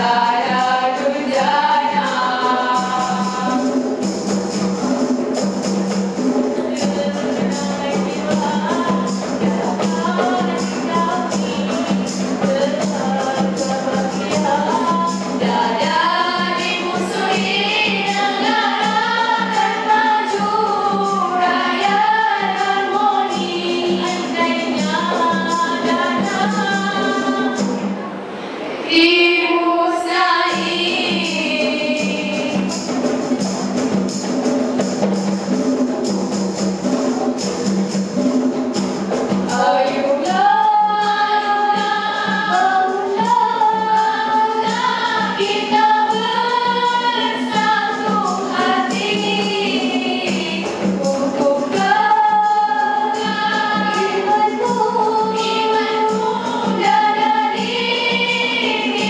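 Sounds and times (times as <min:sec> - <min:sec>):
girls singing in harmony: 0:00.0 - 0:27.9, 0:28.8 - 0:35.1, 0:39.1 - 0:59.0.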